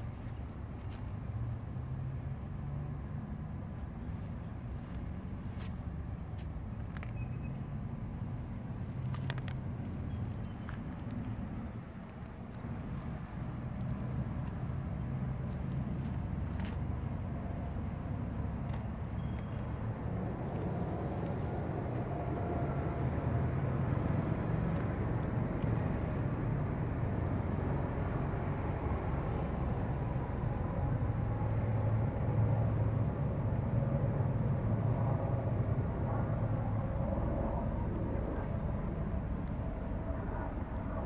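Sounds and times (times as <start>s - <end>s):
distant motor rumble: 0.0s - 41.0s.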